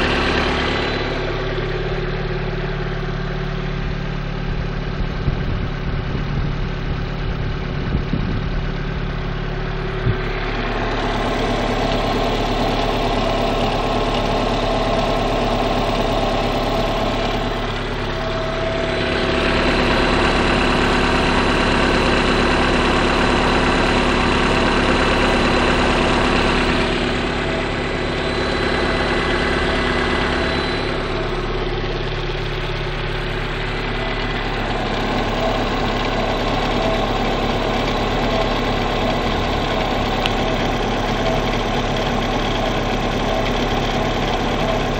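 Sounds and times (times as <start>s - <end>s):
car engine idling with knock: 0.0s - 44.9s.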